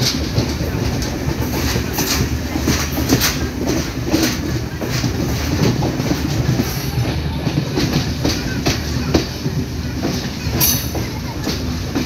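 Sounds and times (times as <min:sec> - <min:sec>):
train rumble on rails: 0:00.0 - 0:12.0
wheels clicking over rail joints: 0:00.0 - 0:12.0.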